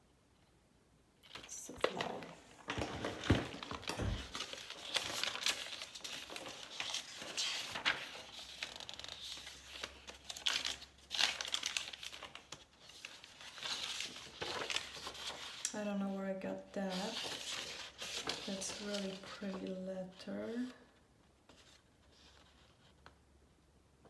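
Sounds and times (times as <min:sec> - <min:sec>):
paper rustling and crinkling: 0:01.2 - 0:15.7, 0:16.9 - 0:23.2.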